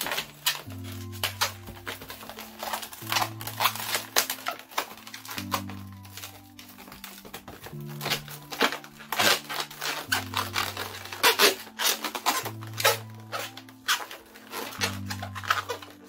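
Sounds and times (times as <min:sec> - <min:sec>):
balloon squeaking and rubbing: 0:00.0 - 0:16.0
soft background music: 0:00.0 - 0:16.0.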